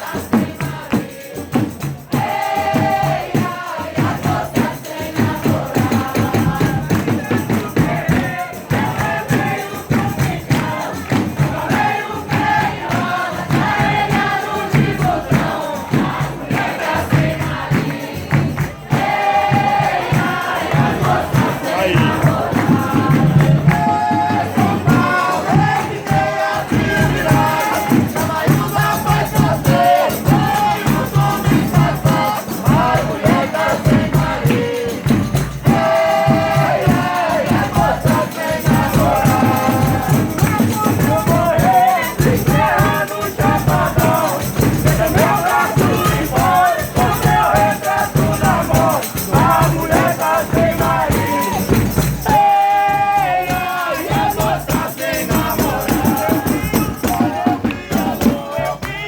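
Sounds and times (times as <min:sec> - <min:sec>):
group singing devotional song: 0:00.0 - 0:59.0
tambourine jingles: 0:00.0 - 0:59.0
steady beat: 0:00.4 - 0:59.0.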